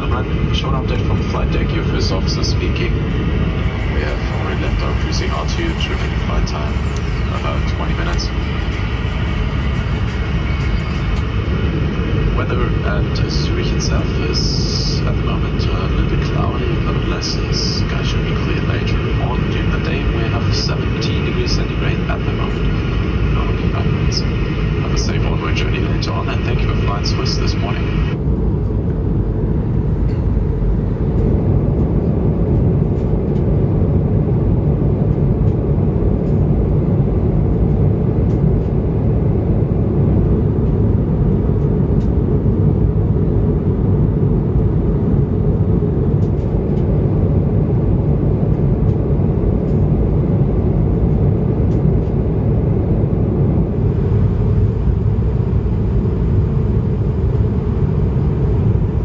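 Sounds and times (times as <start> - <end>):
aircraft cabin engine rumble: 0.0 - 59.0.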